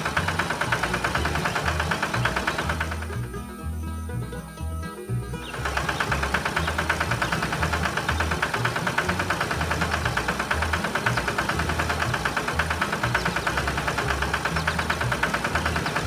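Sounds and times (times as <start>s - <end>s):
heavy engine idling: 0.0s - 16.0s.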